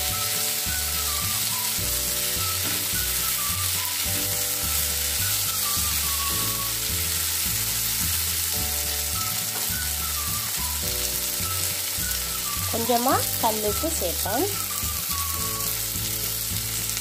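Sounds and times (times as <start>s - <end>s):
background music with bass line: 0.0s - 17.0s
vegetables sizzling in oil: 0.0s - 17.0s.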